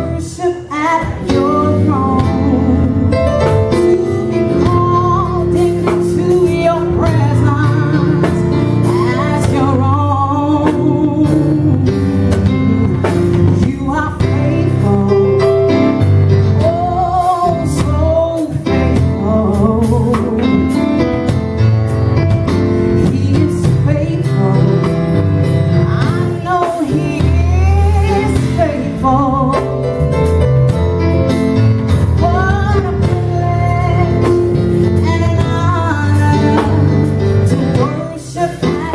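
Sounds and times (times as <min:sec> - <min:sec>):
person singing gospel: 0:00.0 - 0:21.1, 0:22.9 - 0:29.9, 0:32.2 - 0:38.9
backing band playing: 0:00.0 - 0:38.9.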